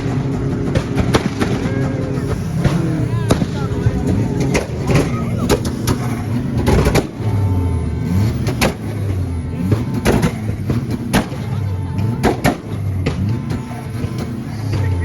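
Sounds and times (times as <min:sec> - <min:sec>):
car engine revving: 0:00.0 - 0:15.0
loud sharp bangs: 0:00.0 - 0:15.0.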